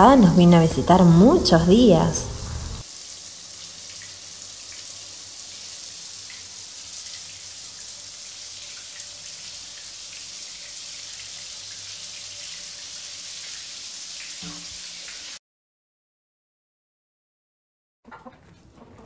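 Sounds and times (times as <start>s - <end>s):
rain hissing: 0.0s - 15.4s.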